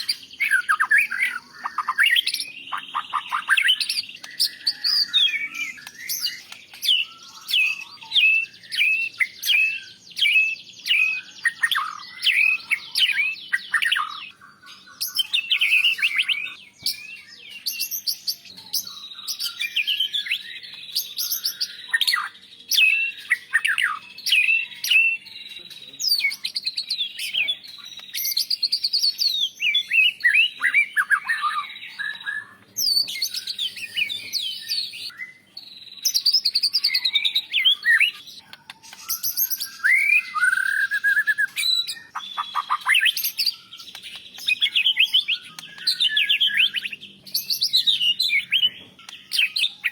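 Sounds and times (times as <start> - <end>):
bird singing whistled notes: 0.0 - 49.9.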